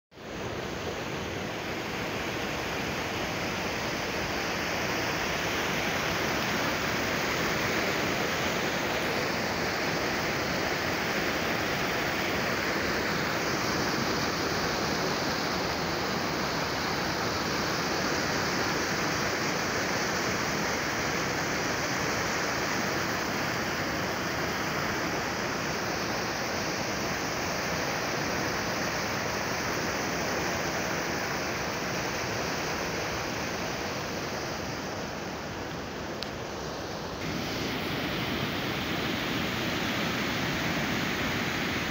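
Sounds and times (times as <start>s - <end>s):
water rushing over weir: 0.2s - 41.9s.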